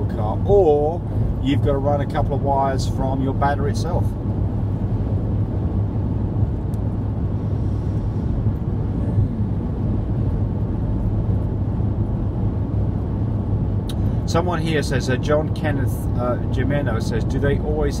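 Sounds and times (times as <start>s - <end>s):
road and engine rumble inside car: 0.0s - 18.0s.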